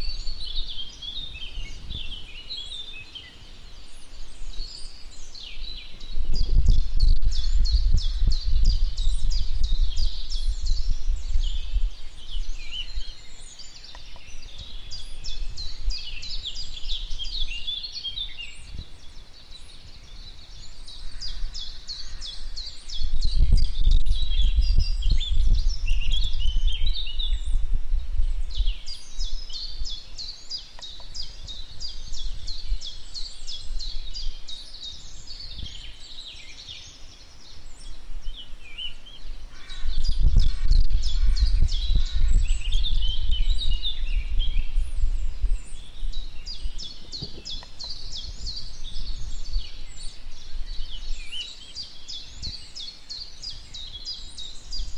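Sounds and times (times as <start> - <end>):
songbirds chirping: 0.0 - 54.9
wind rumble on microphone: 0.0 - 54.9.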